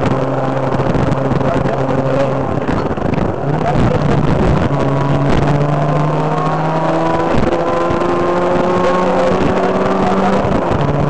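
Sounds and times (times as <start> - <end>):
car engine running under load: 0.0 - 11.0
gear change: 0.0 - 11.0.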